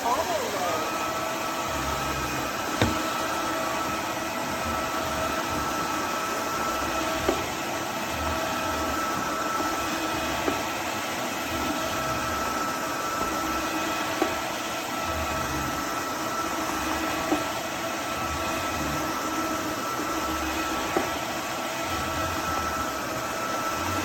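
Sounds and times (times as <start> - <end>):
vacuum mop motor whine: 0.0 - 24.0.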